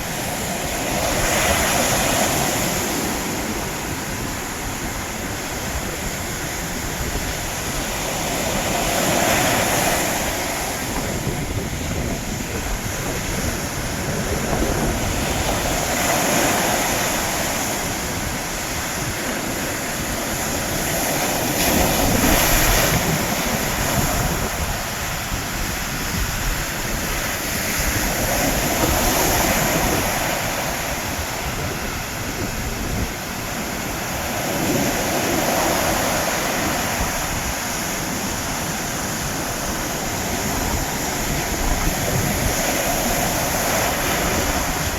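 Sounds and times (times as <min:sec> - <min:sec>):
sea surf breaking on shore: 0:00.0 - 0:44.9
wind rumbling on microphone: 0:00.0 - 0:44.9.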